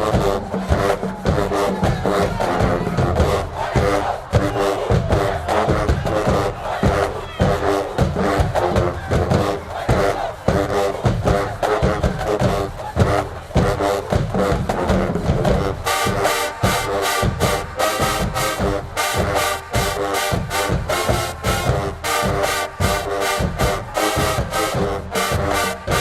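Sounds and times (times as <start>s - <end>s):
brass playing: 0.0s - 26.0s
drums keeping a beat: 0.0s - 26.0s.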